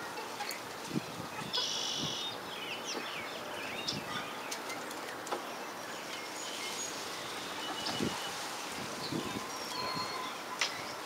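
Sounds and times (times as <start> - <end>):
birds chirping high: 0.0 - 11.0.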